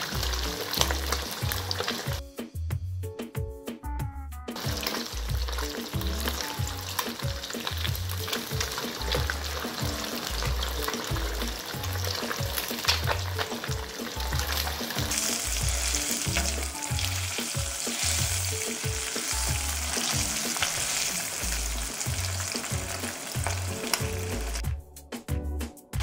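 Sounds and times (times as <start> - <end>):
fish deep-frying in oil: 0.0 - 2.2, 4.6 - 24.6.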